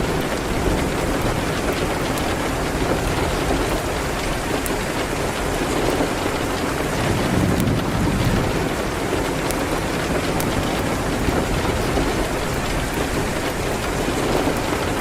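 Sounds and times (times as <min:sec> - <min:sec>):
fireplace crackles: 0:00.0 - 0:15.0
heavy rain against a window: 0:00.0 - 0:15.0.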